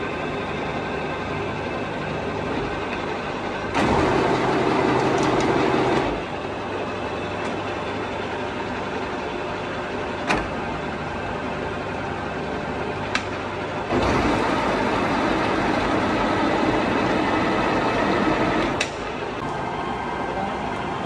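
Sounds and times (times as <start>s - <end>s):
machine electric hum: 0.0s - 21.0s.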